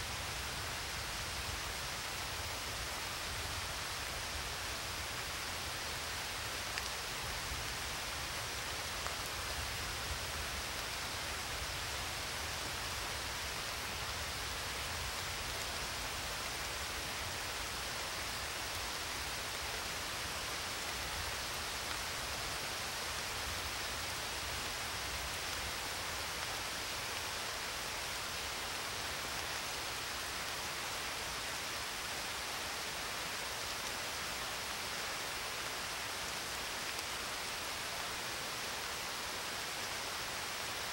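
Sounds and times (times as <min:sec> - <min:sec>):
steady hissing noise: 0:00.0 - 0:40.9.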